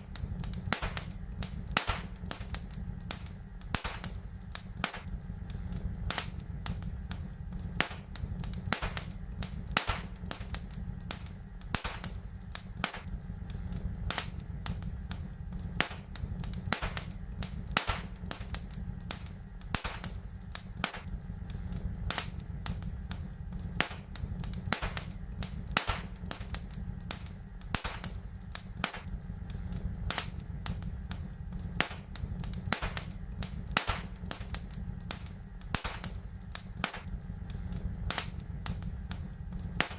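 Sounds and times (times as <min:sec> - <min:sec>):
fire crackling: 0:00.0 - 0:39.9
low rumble: 0:00.0 - 0:39.9.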